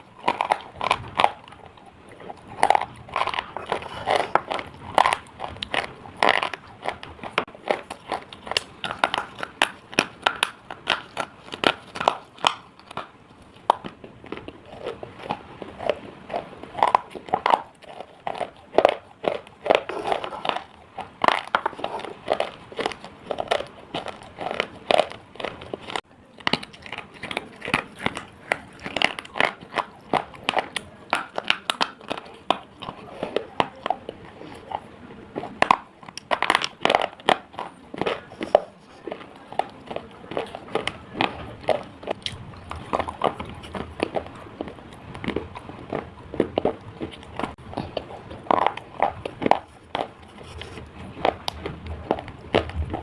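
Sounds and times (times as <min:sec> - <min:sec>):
slate being chewed crunching: 0:00.0 - 0:53.0.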